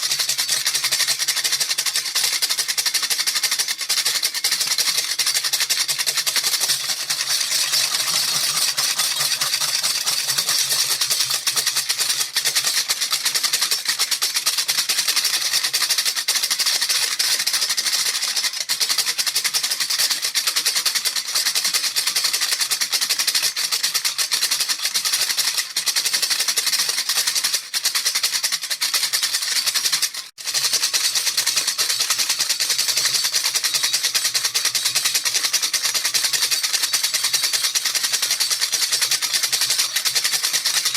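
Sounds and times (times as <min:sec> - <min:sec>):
bead rattle shaken: 0:00.0 - 0:40.9.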